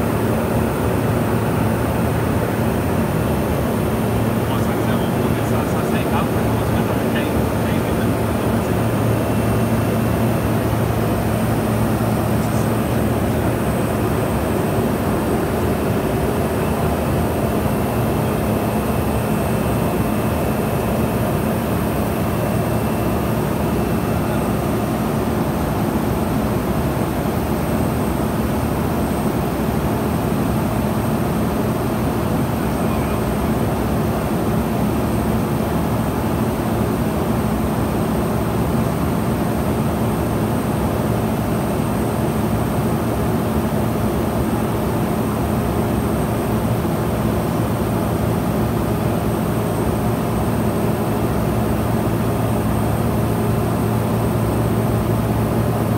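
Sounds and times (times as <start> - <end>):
turboprop engine hum: 0.0 - 55.9.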